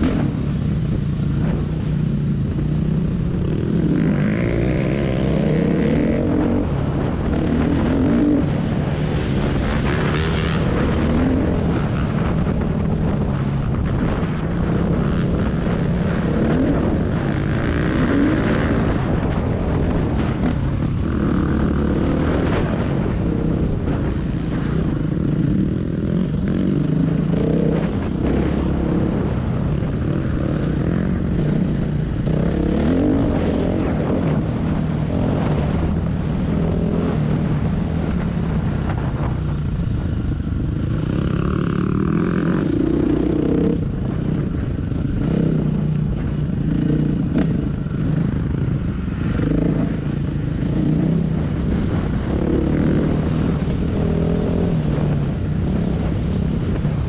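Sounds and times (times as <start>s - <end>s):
dirt bike engine revving: 1.3s - 38.2s, 41.0s - 57.0s.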